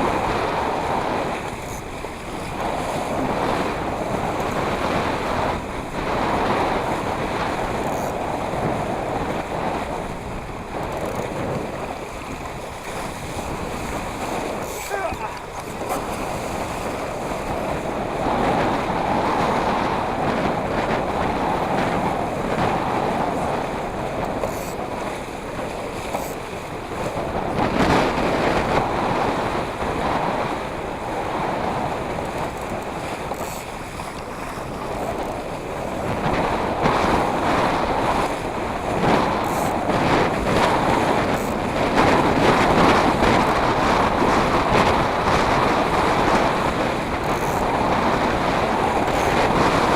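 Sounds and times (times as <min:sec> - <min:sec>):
rushing sea water: 0:00.0 - 0:49.9
wind buffeting the microphone: 0:00.0 - 0:49.9.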